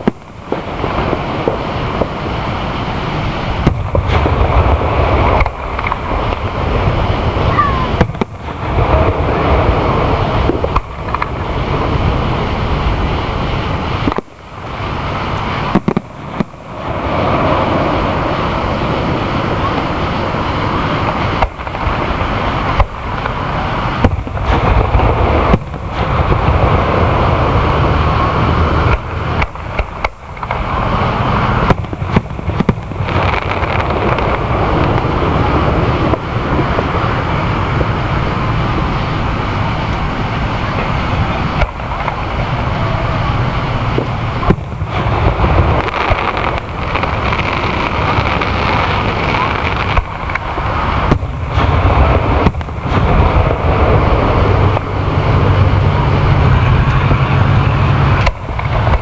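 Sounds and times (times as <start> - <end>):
fireworks bangs: 0.0 - 59.0
loud rumbling: 0.0 - 59.0.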